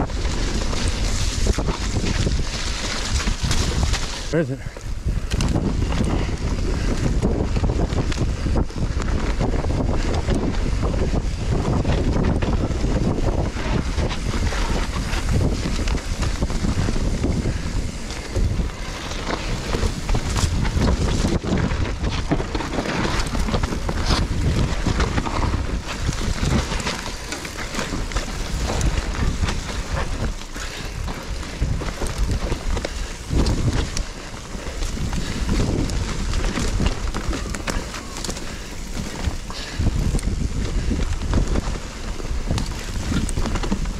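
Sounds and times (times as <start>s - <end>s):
bike knocking and rattling: 0.0s - 43.9s
wind buffeting microphone: 0.0s - 43.9s.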